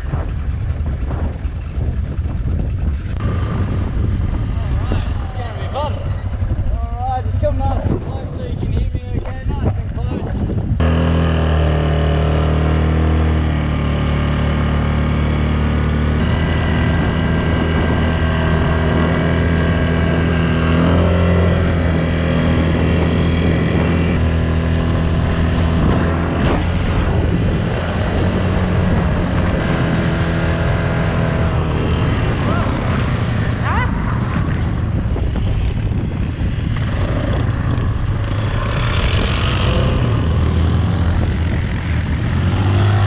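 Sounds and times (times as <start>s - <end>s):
quad bike engine running: 0.0s - 43.0s.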